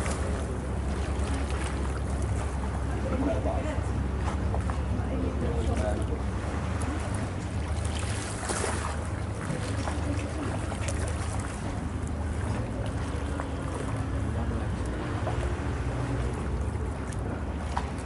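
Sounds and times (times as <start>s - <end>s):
boat engine droning: 0.0s - 18.0s
wind and water hiss: 0.0s - 18.0s.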